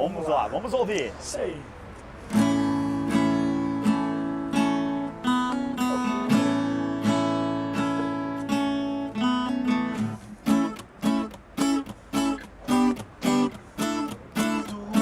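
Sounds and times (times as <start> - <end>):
acoustic guitar strumming: 2.3 - 15.0.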